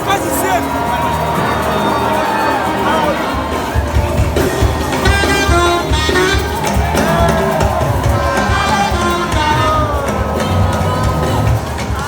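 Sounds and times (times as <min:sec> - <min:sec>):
upbeat music with bass beat: 0:00.0 - 0:12.0.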